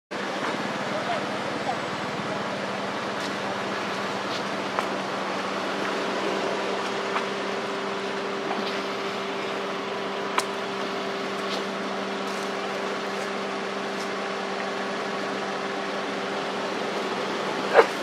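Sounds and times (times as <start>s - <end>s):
steady hum with hiss: 0.2s - 18.0s.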